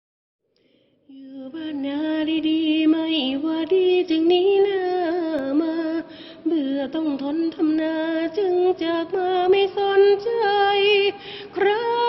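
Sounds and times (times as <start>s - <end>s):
woman singing: 1.1s - 12.0s.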